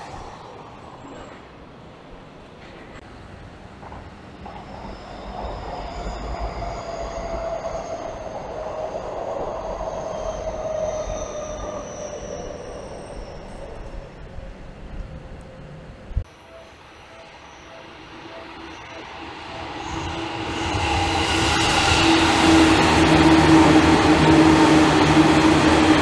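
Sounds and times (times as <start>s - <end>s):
electric train rumble: 0.0s - 26.0s
train high whine: 0.0s - 26.0s.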